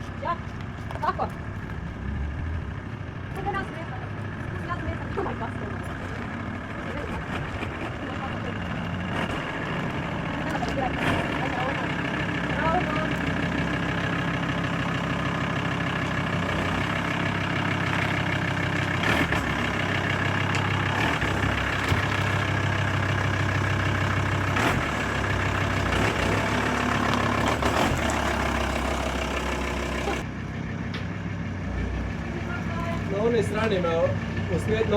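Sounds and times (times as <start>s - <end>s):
vehicle engine running at low revs: 0.0s - 34.9s.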